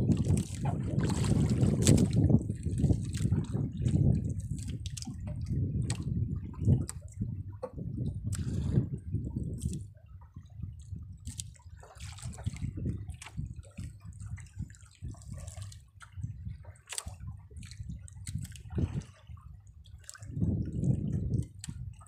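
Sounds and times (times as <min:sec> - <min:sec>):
water sloshing against boat: 0:00.0 - 0:22.0.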